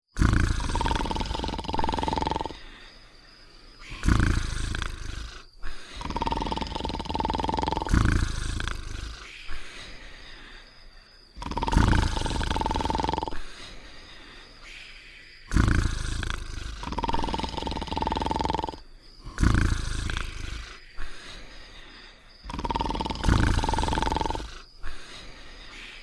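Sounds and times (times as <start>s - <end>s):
cartoon snoring with whistle: 0.1s - 2.7s, 3.8s - 10.0s, 11.3s - 13.8s, 15.4s - 26.0s
quiet breathing: 0.3s - 26.0s.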